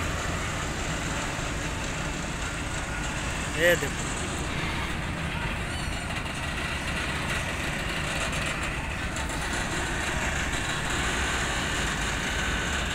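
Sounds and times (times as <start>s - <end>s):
diesel truck engines rumbling: 0.0s - 12.9s.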